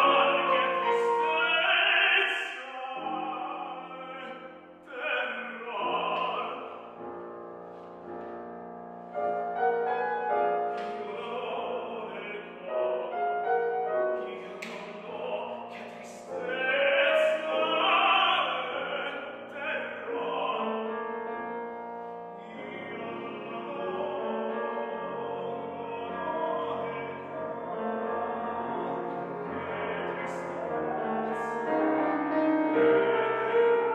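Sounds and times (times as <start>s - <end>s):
operatic singing: 0.0s - 7.0s, 9.4s - 33.9s
piano accompaniment: 0.0s - 33.9s.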